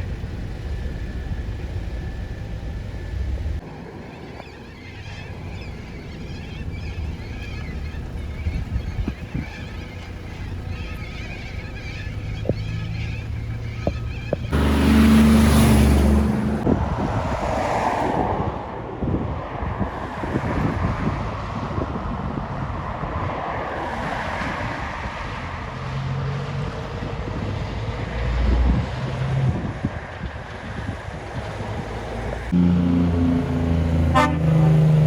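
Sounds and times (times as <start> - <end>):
wind buffeting microphone: 0.0 - 32.6
heavy truck passing: 4.7 - 35.0.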